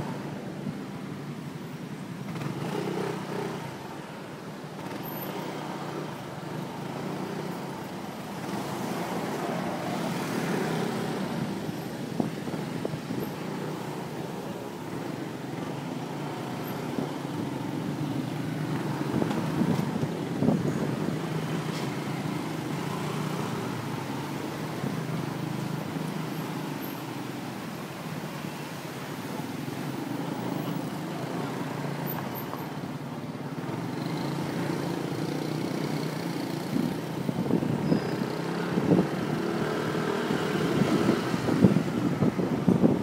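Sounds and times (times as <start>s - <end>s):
traffic noise: 0.0s - 43.0s.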